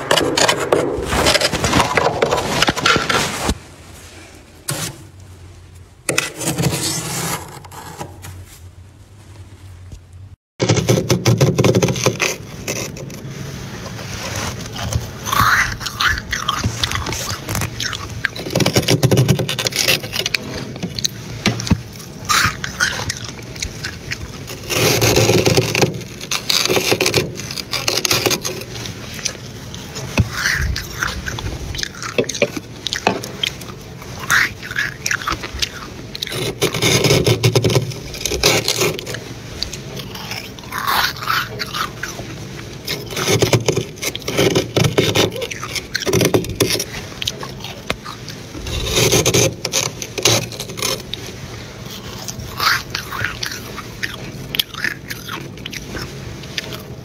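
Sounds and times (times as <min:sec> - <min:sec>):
metal spoon scraping frost: 0:04.6 - 0:05.2, 0:06.1 - 0:08.5, 0:10.6 - 0:57.0.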